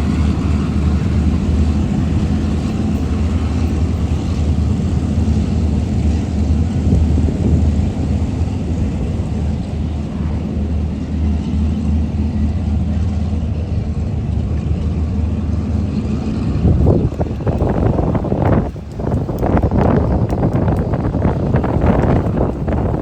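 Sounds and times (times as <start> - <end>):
aircraft piston engines droning: 0.0 - 23.0.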